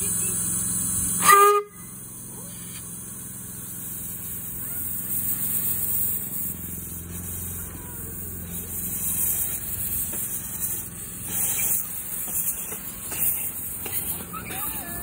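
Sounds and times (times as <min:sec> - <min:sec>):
steam hissing: 0:00.0 - 0:15.0
steam locomotive running gear rumbling: 0:00.0 - 0:15.0.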